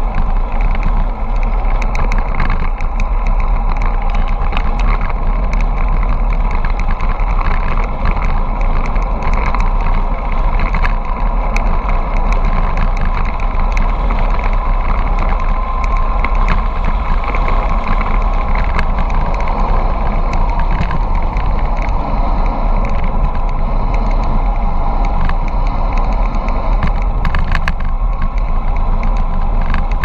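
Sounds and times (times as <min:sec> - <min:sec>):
sharp clicks and rattles: 0:00.0 - 0:30.0
tyre noise on asphalt: 0:00.0 - 0:30.0
wind rushing over microphone: 0:00.0 - 0:30.0.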